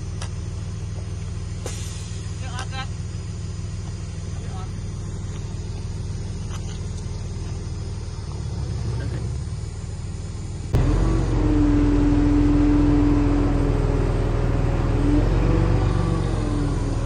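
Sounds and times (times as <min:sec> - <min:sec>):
heavy diesel engine rumbling: 0:00.0 - 0:17.0
steady whine: 0:00.0 - 0:17.0.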